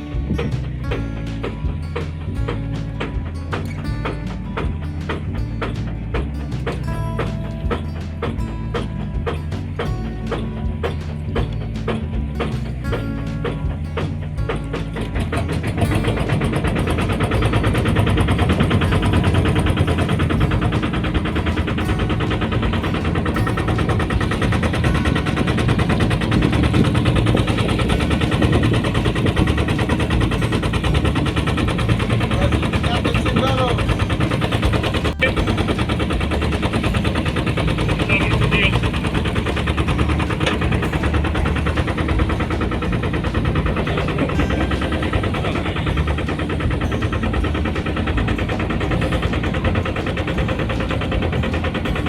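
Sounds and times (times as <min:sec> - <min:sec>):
small boat engine chugging: 0:00.0 - 0:52.0.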